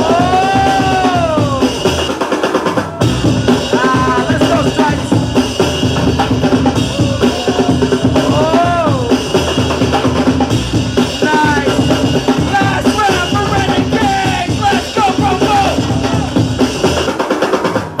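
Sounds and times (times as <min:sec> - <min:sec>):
hip-hop music over sound system: 0:00.0 - 0:18.0.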